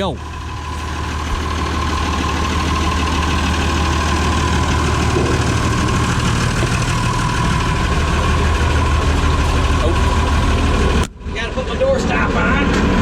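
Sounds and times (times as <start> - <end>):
combine engine drone with whine: 0.0 - 13.0.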